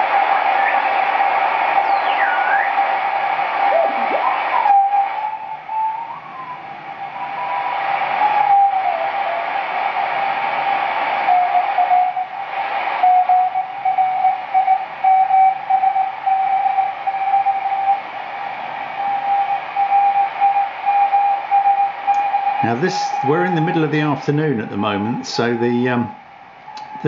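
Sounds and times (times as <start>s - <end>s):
radio band noise hiss: 0.0s - 27.0s
sliding beat-note whistle: 0.0s - 27.0s.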